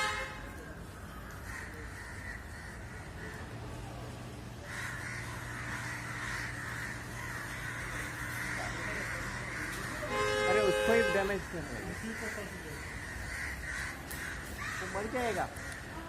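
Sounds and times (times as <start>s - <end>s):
crows cawing: 0.0s - 16.0s.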